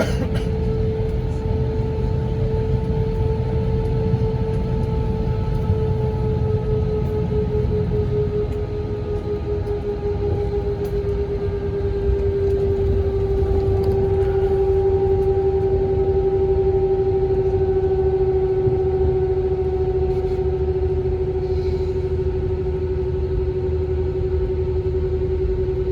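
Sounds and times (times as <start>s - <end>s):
aircraft cabin low rumble: 0.0s - 25.9s
steady engine whine: 0.0s - 25.9s.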